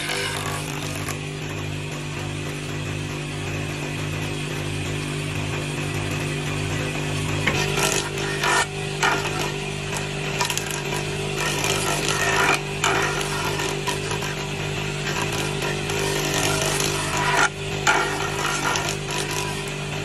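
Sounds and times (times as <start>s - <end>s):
jointer cutting wood: 0.0s - 2.6s, 6.3s - 20.0s
jointer motor hum: 0.0s - 20.0s.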